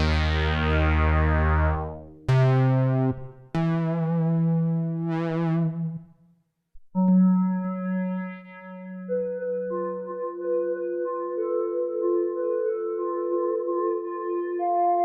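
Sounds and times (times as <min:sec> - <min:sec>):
synthesizer chords: 0:00.0 - 0:06.2, 0:07.0 - 0:15.0.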